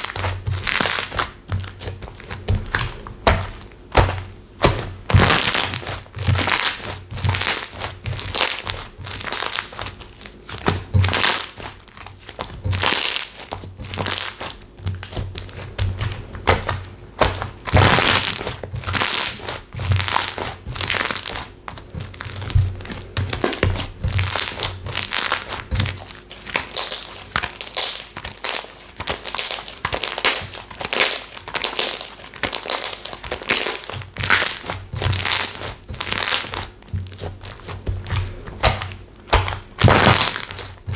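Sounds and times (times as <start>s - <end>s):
slime crackling and popping: 0.0s - 40.9s.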